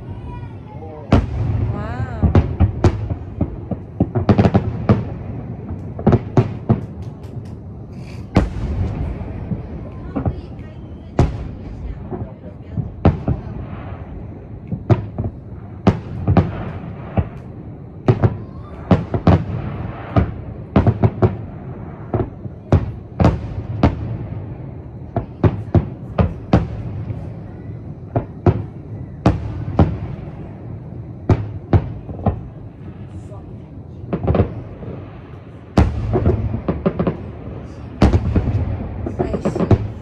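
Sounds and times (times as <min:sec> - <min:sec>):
continuous low rumble: 0:00.0 - 0:40.0
firework shells bursting: 0:01.1 - 0:33.2.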